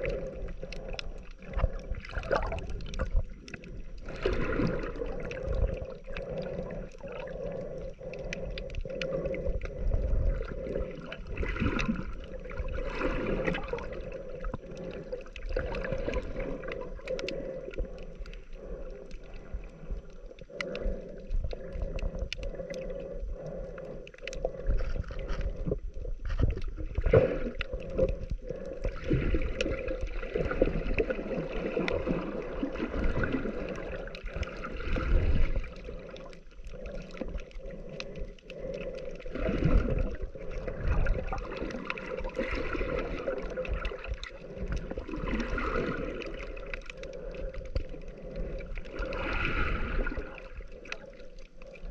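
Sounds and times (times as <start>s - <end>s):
muffled underwater water sloshing: 0.0s - 51.9s.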